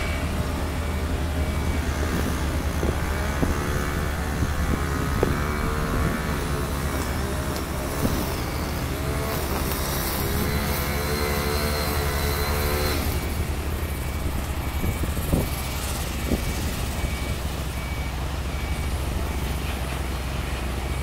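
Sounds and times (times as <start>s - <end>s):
heavy diesel engines humming: 0.0s - 21.0s.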